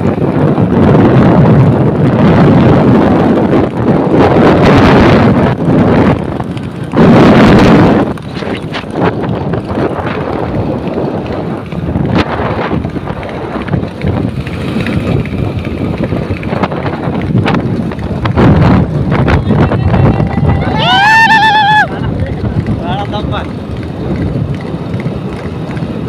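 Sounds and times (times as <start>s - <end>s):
motorcycle road noise: 0.0s - 26.0s
wind buffeting microphone: 0.0s - 26.0s.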